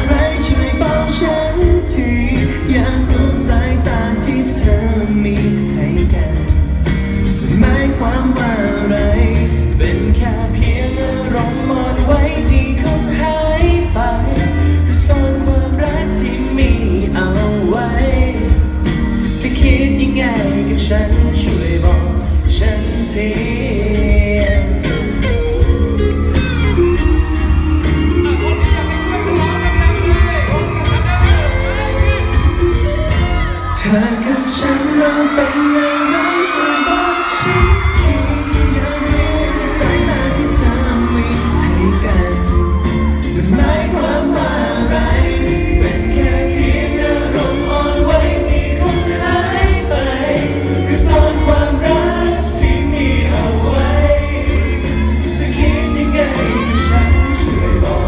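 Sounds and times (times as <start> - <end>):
amplified pop music with heavy beat: 0.0 - 58.0
male vocal group singing: 0.0 - 58.0.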